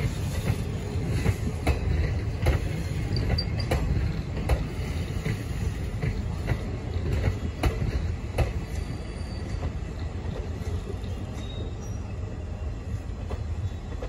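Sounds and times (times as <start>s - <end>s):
wheels clicking over rail joints: 0.0s - 11.5s
train wheels rumbling on rails: 0.0s - 14.0s.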